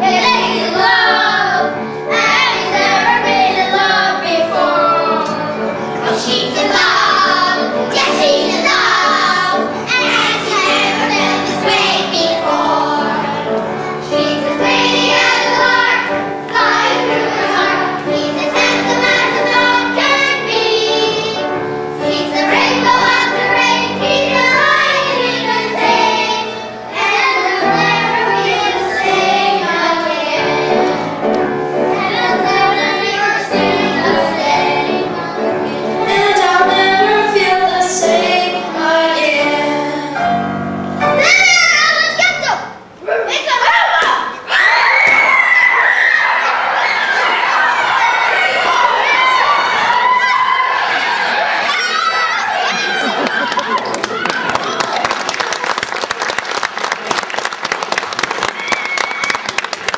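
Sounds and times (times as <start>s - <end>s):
children singing: 0.0s - 40.3s, 44.5s - 54.2s.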